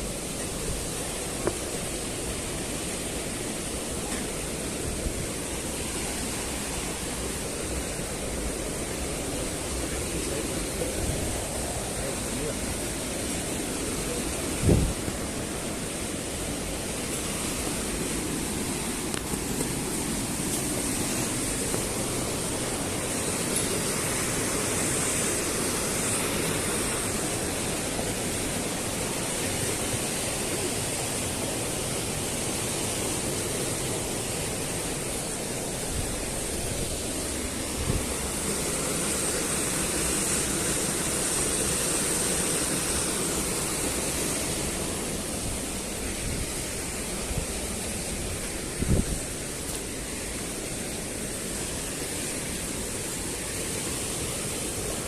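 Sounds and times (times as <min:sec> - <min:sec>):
white water roaring: 0:00.0 - 0:55.0.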